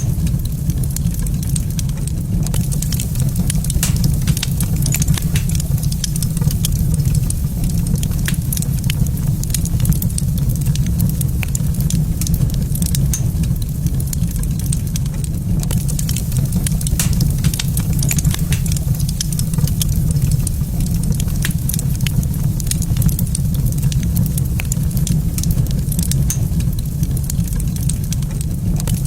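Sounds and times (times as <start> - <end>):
low rumble of fire: 0.0 - 29.0
wood fire crackling and popping: 0.0 - 29.0.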